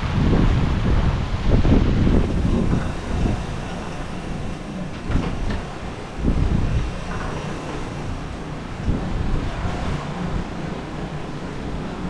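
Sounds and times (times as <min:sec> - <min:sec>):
sea rushing past a hull: 0:00.0 - 0:12.0
wind buffeting microphone: 0:00.0 - 0:12.0.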